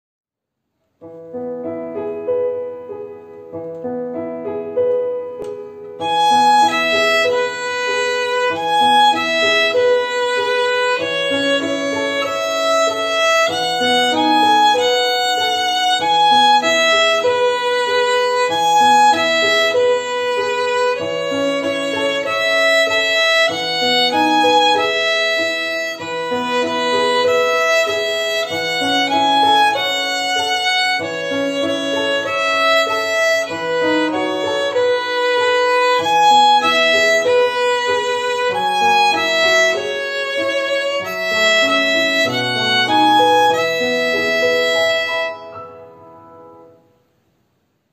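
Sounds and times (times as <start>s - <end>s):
recorded accompaniment: 0.6s - 47.9s
violin playing a simple tune: 5.9s - 46.0s.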